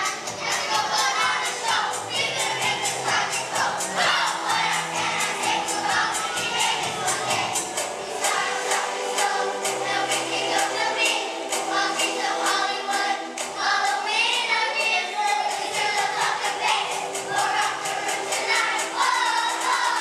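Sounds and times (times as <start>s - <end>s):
children's choir singing: 0.0s - 20.0s
musical accompaniment with steady beat: 0.0s - 20.0s.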